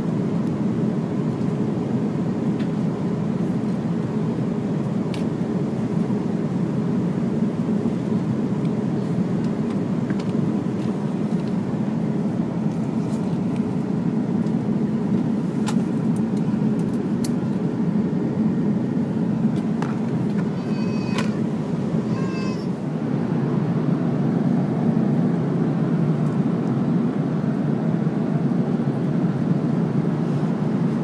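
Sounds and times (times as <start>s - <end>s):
airplane cabin rush: 0.0s - 31.0s.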